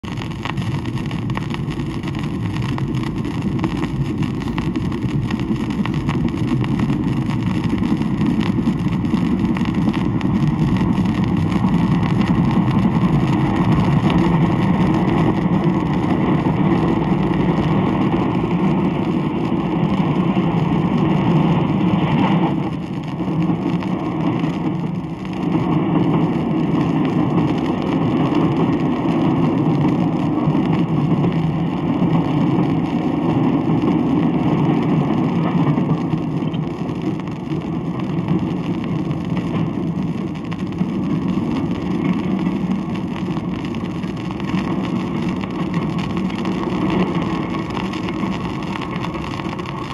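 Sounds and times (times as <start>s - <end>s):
record surface noise crackling: 0.0s - 49.9s.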